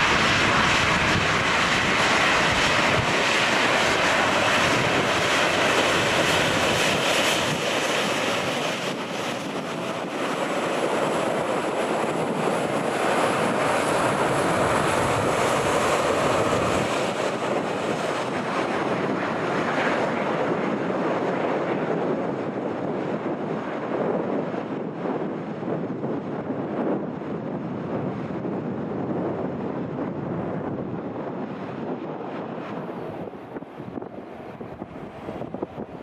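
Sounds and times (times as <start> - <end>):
jet engines roaring: 0.0 - 36.0
wind buffeting microphone: 0.0 - 36.0.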